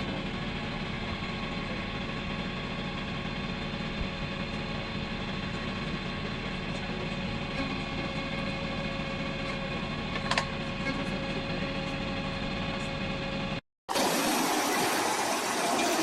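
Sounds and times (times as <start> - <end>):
log splitter engine running: 0.0 - 16.0
loud noisy machine: 0.0 - 16.0.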